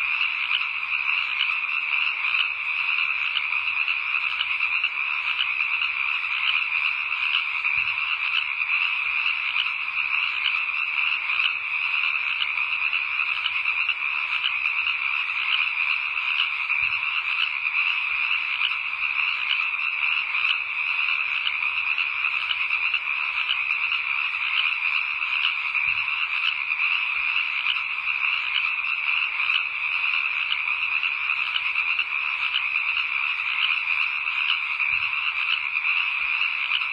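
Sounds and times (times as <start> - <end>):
chorus of frogs trilling: 0.0 - 36.9.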